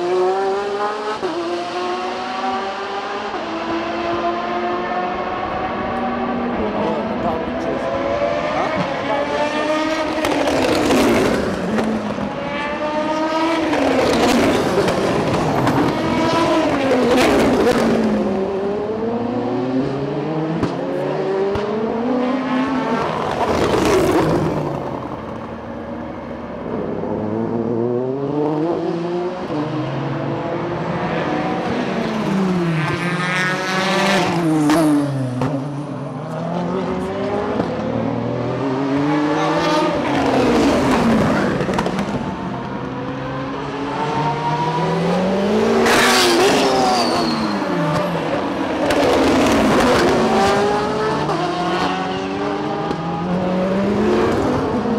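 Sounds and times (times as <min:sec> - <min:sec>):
race cars passing at speed: 0:00.0 - 0:54.9.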